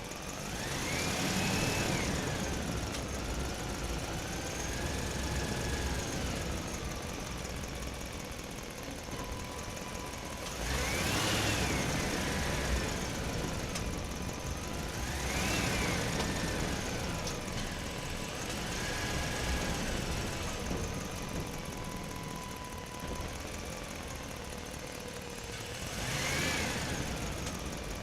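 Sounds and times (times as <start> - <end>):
rattling running noise: 0.0 - 28.0.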